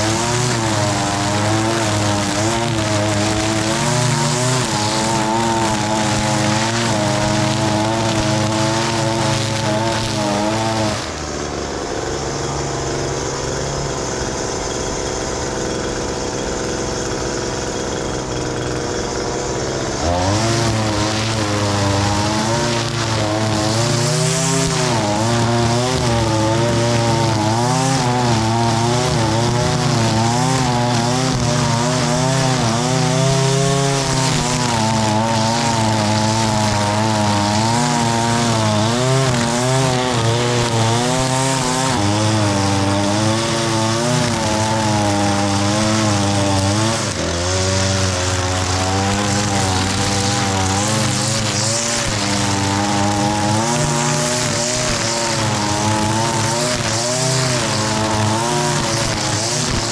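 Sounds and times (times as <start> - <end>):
string trimmer engine: 0.0 - 59.9.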